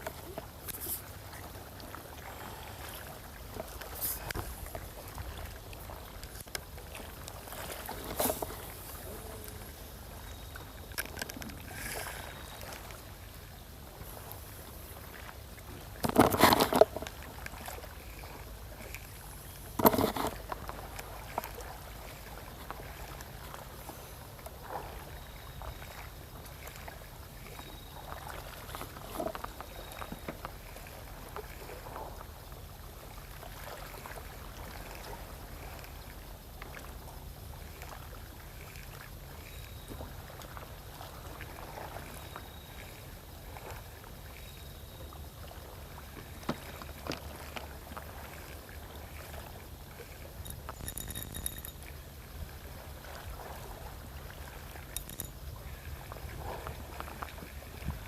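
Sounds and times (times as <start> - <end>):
sea water lapping on shore: 0.0 - 58.0.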